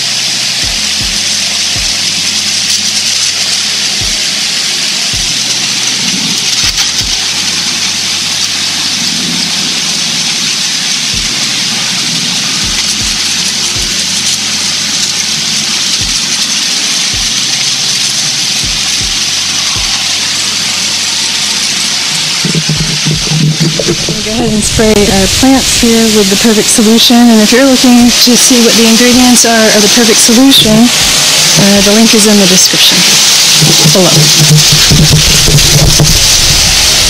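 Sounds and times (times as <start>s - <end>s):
sprayer hissing mist: 0.0s - 37.0s.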